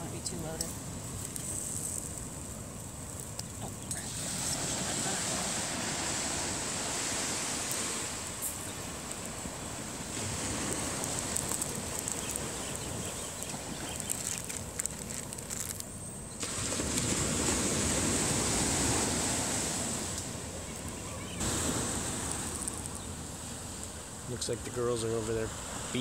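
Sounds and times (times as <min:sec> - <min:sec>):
wind on microphone: 0:00.0 - 0:24.2
ocean surf: 0:03.4 - 0:15.8, 0:16.4 - 0:26.0.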